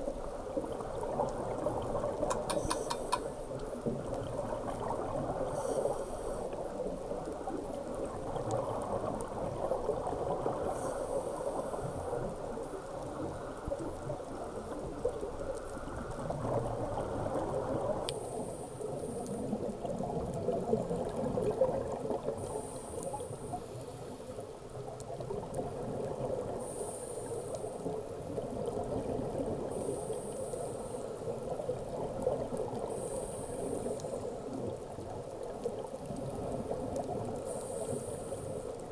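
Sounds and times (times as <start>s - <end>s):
underwater bubbling of exhaled air: 0.0s - 38.9s.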